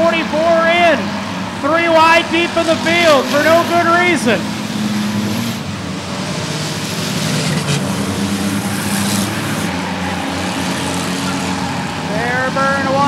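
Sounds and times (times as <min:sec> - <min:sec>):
cars passing by: 0:00.0 - 0:13.0
stock car engines racing: 0:00.0 - 0:13.0.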